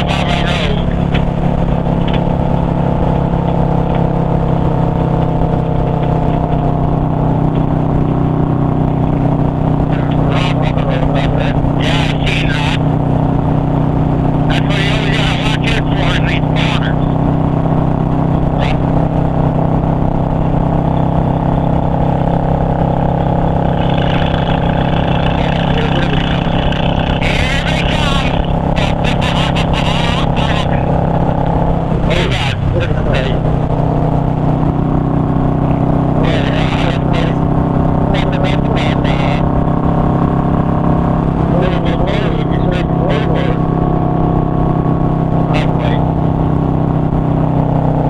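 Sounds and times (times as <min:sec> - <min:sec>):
motorcycle engine running: 0:00.0 - 0:48.0
road and wind noise: 0:00.0 - 0:48.0.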